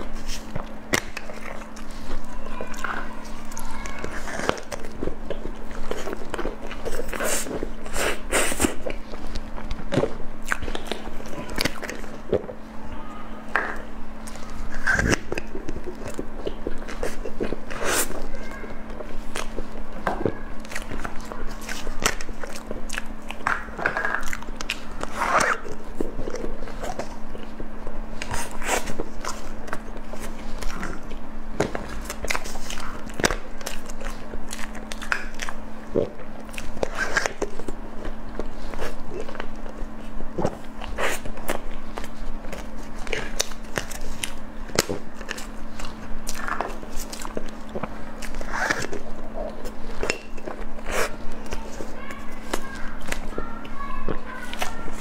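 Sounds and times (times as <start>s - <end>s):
chewing with wet smacks: 0.0s - 12.6s, 13.5s - 55.0s
steady low hum: 0.0s - 55.0s.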